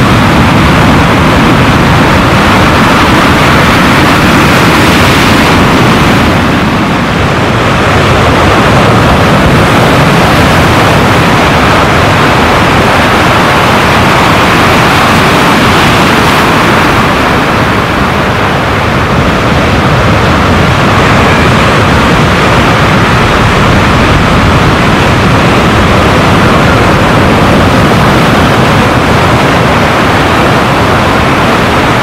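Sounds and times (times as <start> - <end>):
ocean surf breaking: 0.0 - 32.0.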